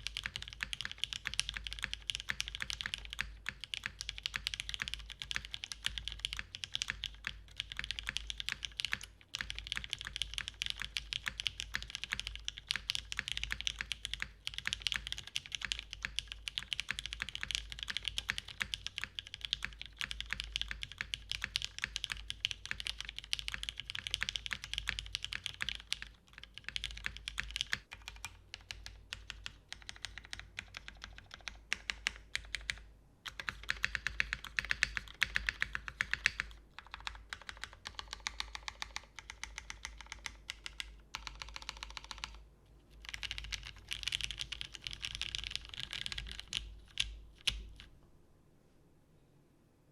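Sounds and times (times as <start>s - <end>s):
mechanical keyboard typing: 0.0s - 47.9s.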